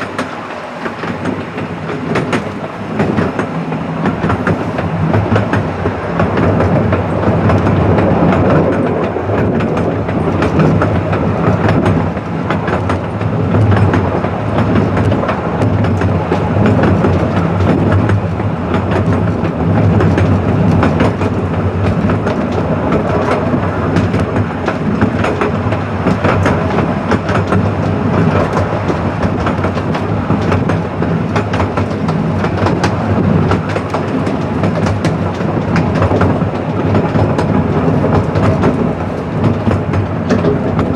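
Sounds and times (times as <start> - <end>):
rapid clicking from track: 0.0 - 40.9
train wheels rumbling on rail: 0.0 - 40.9.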